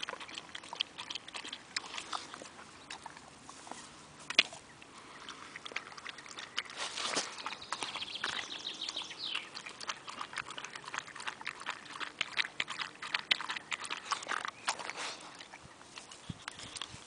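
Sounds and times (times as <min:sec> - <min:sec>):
dog lapping water: 0:00.0 - 0:03.4, 0:04.3 - 0:17.0.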